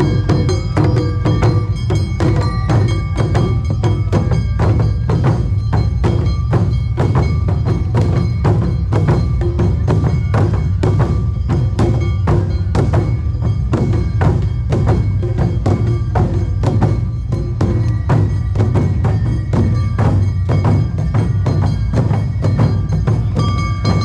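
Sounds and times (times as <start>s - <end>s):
drums and percussion fast beat: 0.0s - 24.0s
steady ringing tones: 0.0s - 24.0s.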